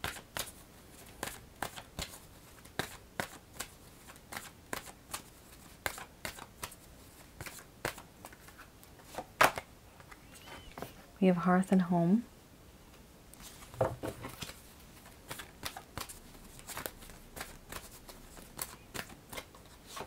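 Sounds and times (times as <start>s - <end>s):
cards being shuffled: 0.0s - 10.9s, 13.4s - 20.0s.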